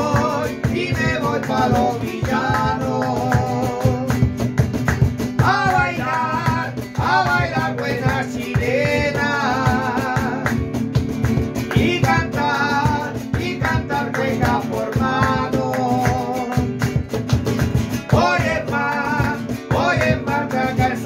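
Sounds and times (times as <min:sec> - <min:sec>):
men singing: 0:00.0 - 0:04.3, 0:05.4 - 0:10.7, 0:11.6 - 0:16.8, 0:18.0 - 0:21.0
cajon drum beat: 0:00.0 - 0:21.0
hand claps: 0:00.0 - 0:21.0
strummed acoustic guitar: 0:00.0 - 0:21.0.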